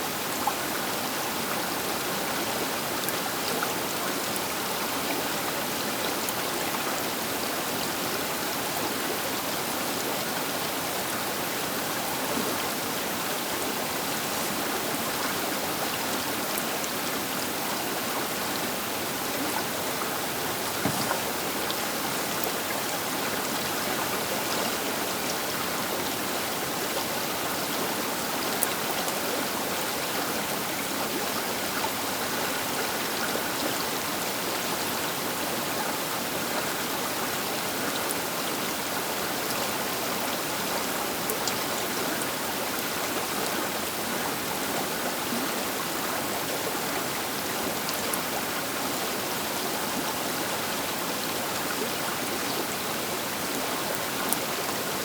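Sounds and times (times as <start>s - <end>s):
river water rushing: 0.1s - 55.0s.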